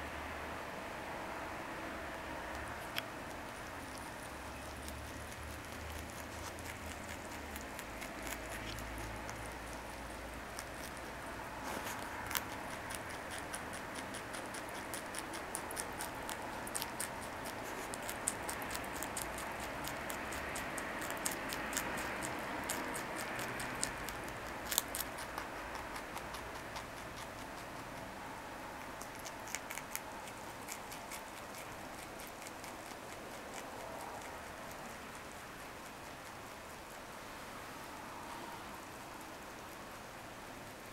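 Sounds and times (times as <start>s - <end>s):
rabbit chewing crunchy greens: 1.9s - 40.9s.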